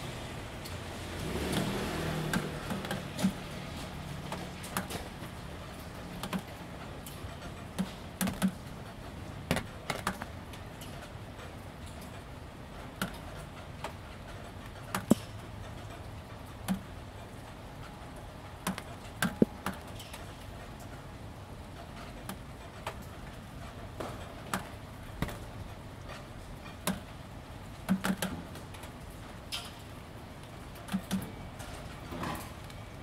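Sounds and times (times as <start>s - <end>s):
raindrops tapping on metal roofing: 0.0s - 33.0s
soft hiss of rain: 0.0s - 33.0s.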